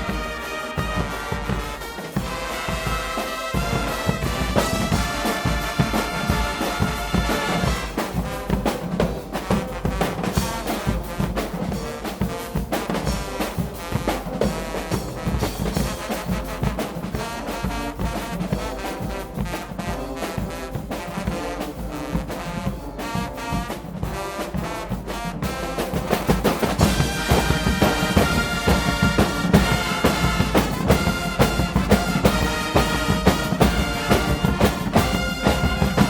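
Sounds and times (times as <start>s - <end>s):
brass band playing loud music: 0.0s - 36.0s
steady drum beat: 0.0s - 36.0s.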